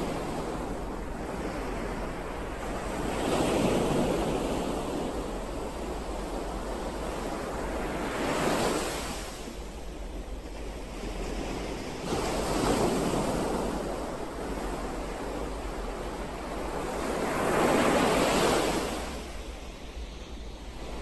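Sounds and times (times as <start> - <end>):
sea waves breaking: 0.0 - 21.0.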